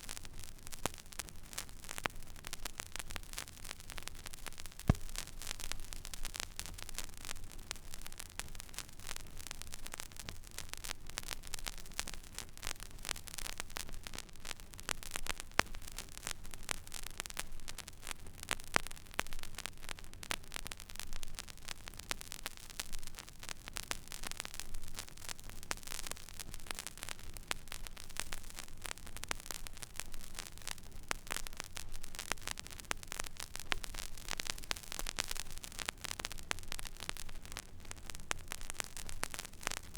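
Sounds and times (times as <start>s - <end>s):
vinyl crackle and pops: 0.0s - 39.9s.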